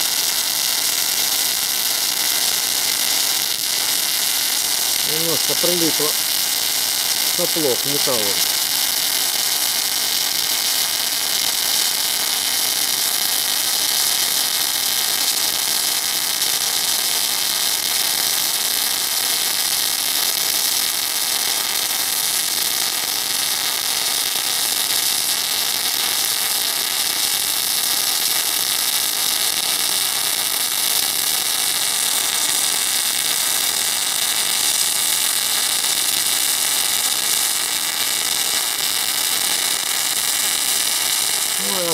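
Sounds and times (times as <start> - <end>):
welding arc crackling: 0.0 - 41.9.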